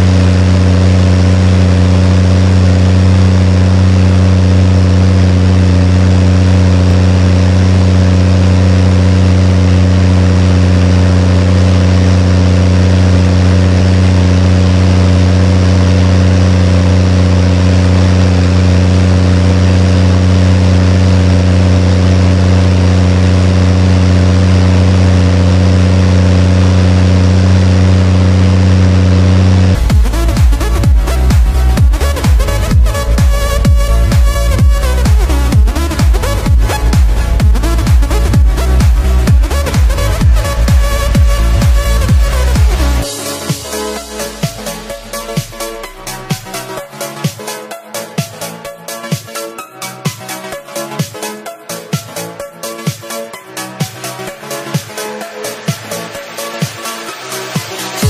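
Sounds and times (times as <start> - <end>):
tractor diesel engine droning: 0.0 - 47.2.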